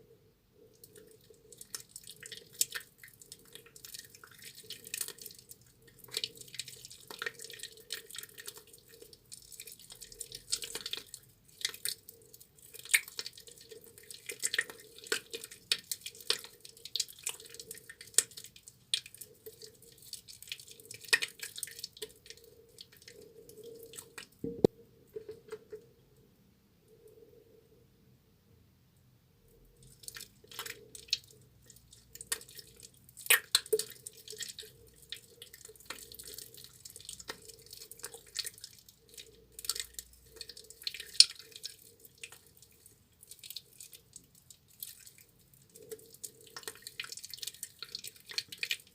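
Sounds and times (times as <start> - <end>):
wet soap lathering by hand: 0.8 - 24.4, 29.8 - 48.9.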